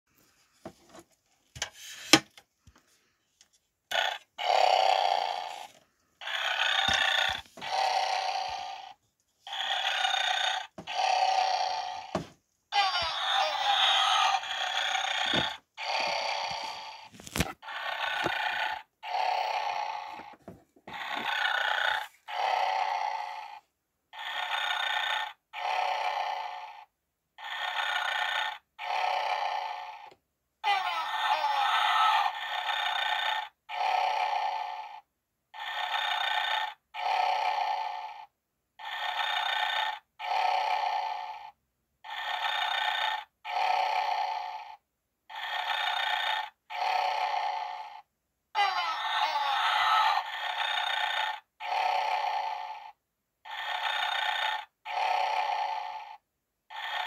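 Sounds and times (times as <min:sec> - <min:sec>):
recorded snoring from tiny speaker: 0:03.9 - 0:57.0.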